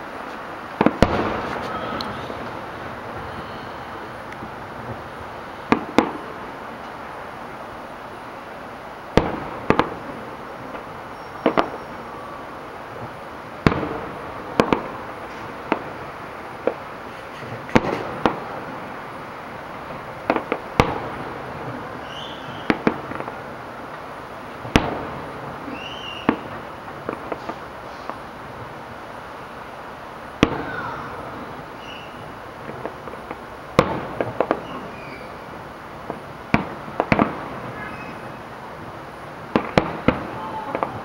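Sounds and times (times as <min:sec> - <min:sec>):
background hiss: 0:00.0 - 0:41.0
firework shells bursting: 0:00.3 - 0:07.2, 0:09.1 - 0:28.4, 0:30.4 - 0:38.5, 0:39.5 - 0:41.0.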